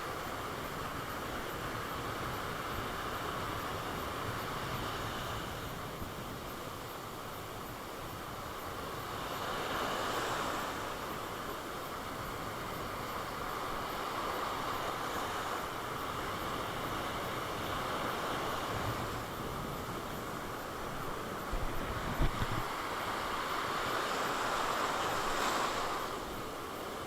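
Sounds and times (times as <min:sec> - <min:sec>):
sea surf washing onto beach: 0:00.0 - 0:27.0.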